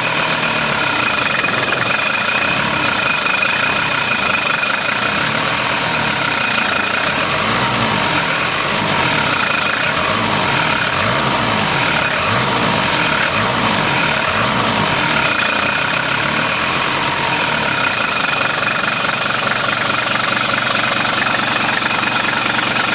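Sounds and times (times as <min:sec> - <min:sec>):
diesel engine running: 0:00.0 - 0:22.9
engine knocking: 0:00.0 - 0:22.9.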